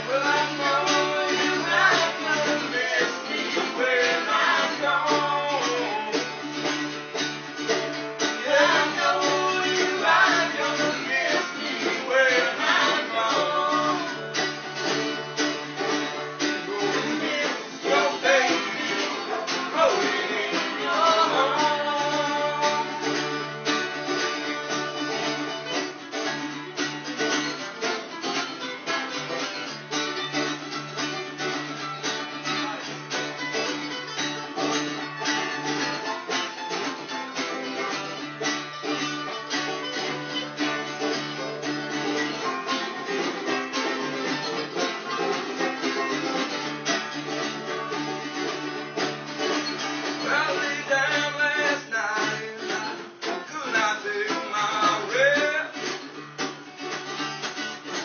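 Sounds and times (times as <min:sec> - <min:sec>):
instrumental guitar music: 0:00.0 - 0:58.0.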